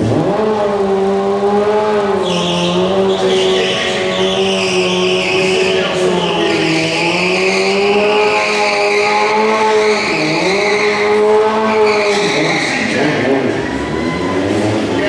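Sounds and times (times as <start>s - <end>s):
motorcycle engine at high revs: 0.0s - 13.6s.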